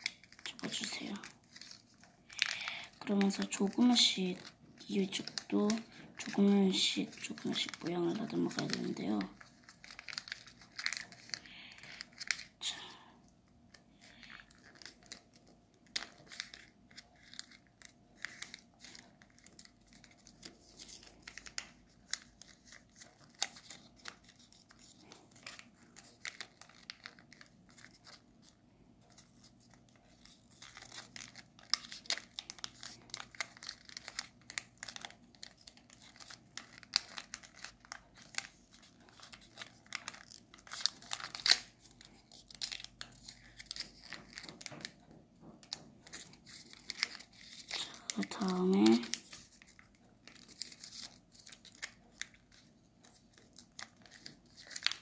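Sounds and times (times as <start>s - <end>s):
paper crinkling: 0.0s - 55.0s.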